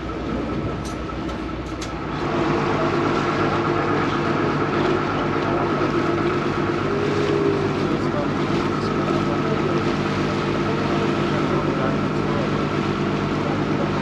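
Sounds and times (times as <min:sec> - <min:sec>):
boat diesel engine running: 0:00.0 - 0:14.0
water churning around hull: 0:00.0 - 0:14.0.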